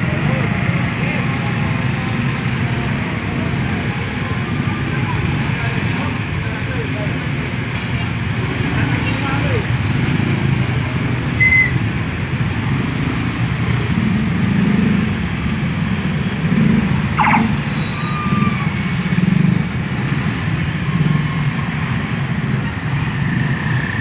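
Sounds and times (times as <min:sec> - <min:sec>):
motorcycles passing: 0:00.0 - 0:24.0
street traffic: 0:00.0 - 0:24.0.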